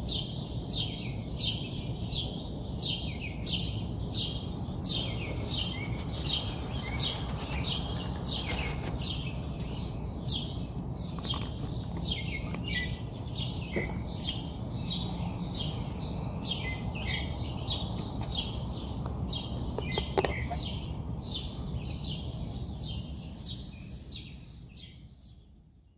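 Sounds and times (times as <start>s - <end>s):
bird chirping: 0.0s - 25.9s
steady low rumble: 0.6s - 23.8s.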